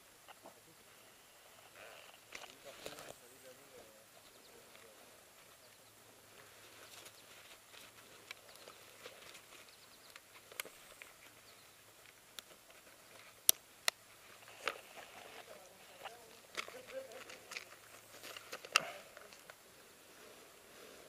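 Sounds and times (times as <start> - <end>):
faint rustling: 0.3 - 21.0.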